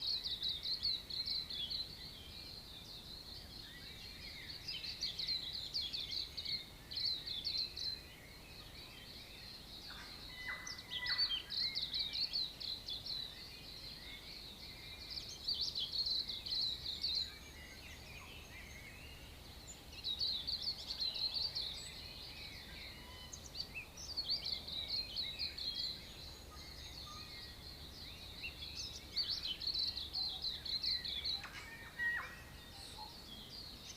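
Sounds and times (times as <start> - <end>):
birds chirping and chattering: 0.0 - 33.9.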